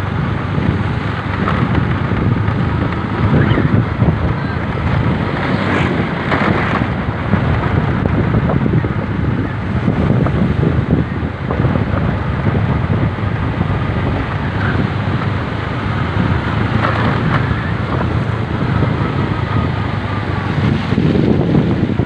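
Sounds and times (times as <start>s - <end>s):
low vehicle rumble: 0.0s - 22.0s
wind buffeting microphone: 0.0s - 22.0s.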